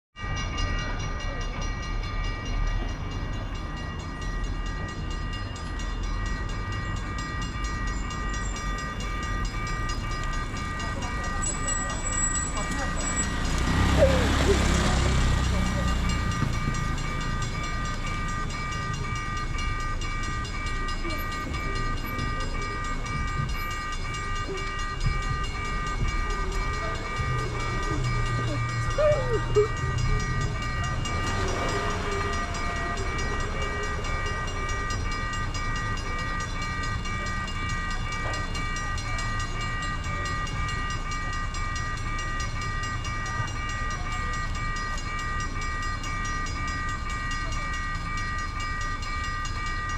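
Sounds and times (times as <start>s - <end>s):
train rumble: 0.2s - 49.9s
steady high-pitched tone: 0.3s - 49.9s.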